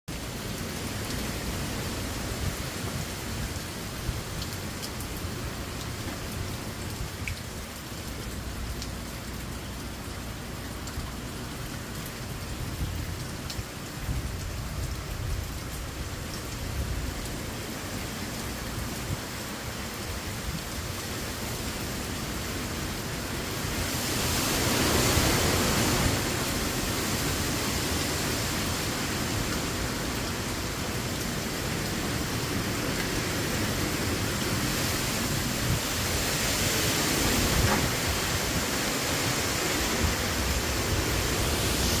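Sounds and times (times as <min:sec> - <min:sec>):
heavy rain pouring: 0:00.1 - 0:42.0.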